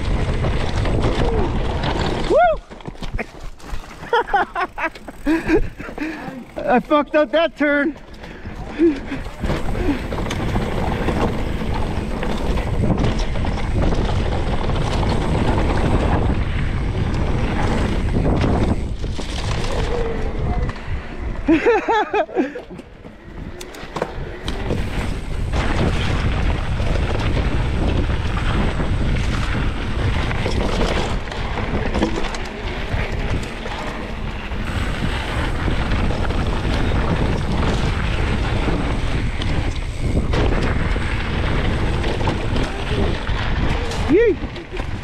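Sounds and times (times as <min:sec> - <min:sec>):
wind rushing over microphone: 0:00.0 - 0:03.2, 0:08.2 - 0:22.3, 0:22.9 - 0:45.0
bike rattling over bumps: 0:00.0 - 0:45.0
tyres rolling over dirt and rocks: 0:00.0 - 0:45.0.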